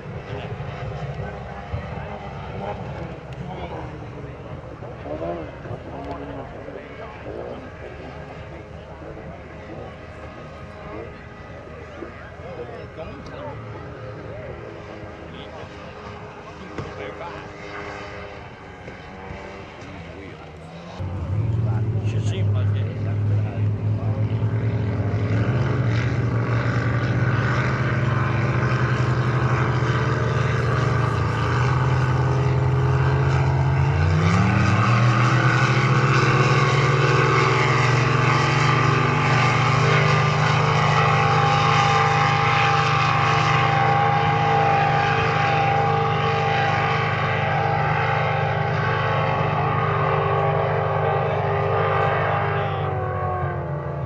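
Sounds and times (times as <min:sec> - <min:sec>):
racing boat engines: 0:00.0 - 0:54.0.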